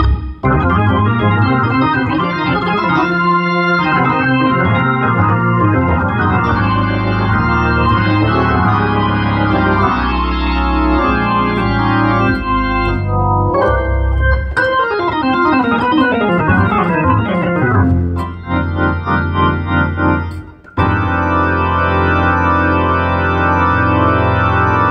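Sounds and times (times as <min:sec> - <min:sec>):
gospel organ chords: 0:00.0 - 0:24.9.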